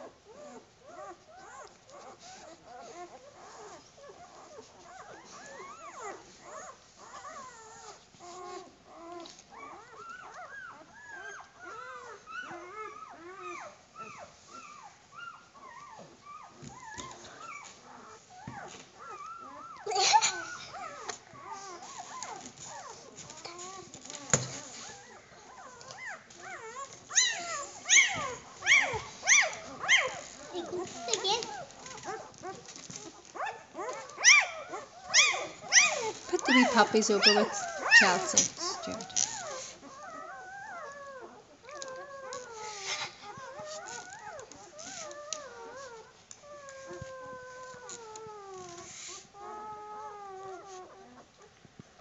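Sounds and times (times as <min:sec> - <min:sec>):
puppies squeaking and whimpering: 0:00.0 - 0:51.5
rustling: 0:00.0 - 0:52.0.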